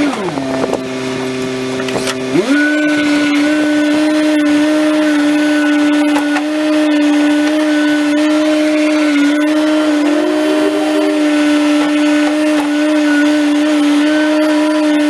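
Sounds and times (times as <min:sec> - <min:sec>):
track loader engine whining: 0:00.0 - 0:15.0.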